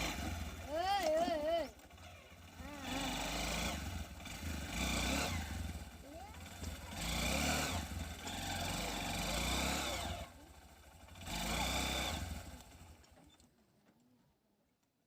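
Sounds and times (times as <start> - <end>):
motorcycle engine running loud: 0.0 - 13.3.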